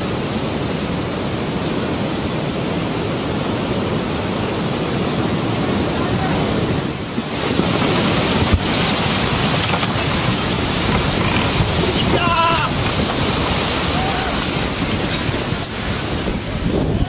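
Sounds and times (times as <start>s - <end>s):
surging sea water: 0.0s - 17.0s
wind buffeting microphone: 0.0s - 17.0s.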